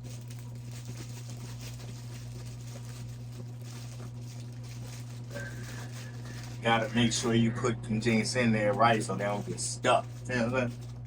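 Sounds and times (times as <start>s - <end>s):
faint rustling: 0.0s - 11.0s
steady low hum: 0.0s - 11.0s.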